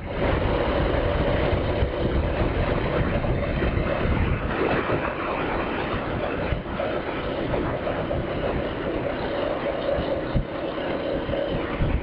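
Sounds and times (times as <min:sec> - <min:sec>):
wind noise: 0:00.0 - 0:12.0.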